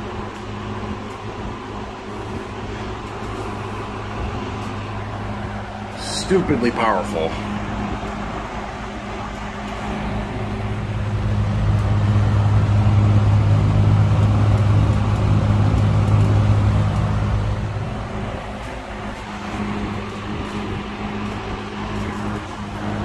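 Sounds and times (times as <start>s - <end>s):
box fan running: 0.0s - 23.0s.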